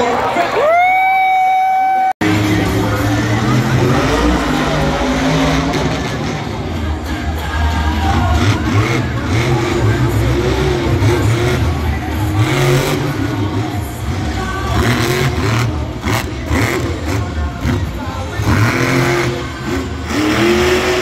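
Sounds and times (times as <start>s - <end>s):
truck engine revving: 2.2s - 21.0s.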